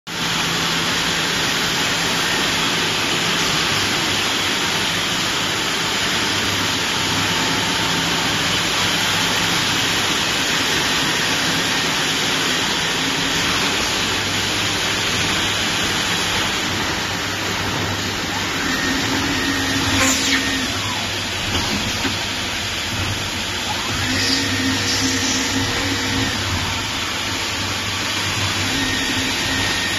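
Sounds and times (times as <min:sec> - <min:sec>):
lathes running with hiss and hum: 0:00.1 - 0:29.9.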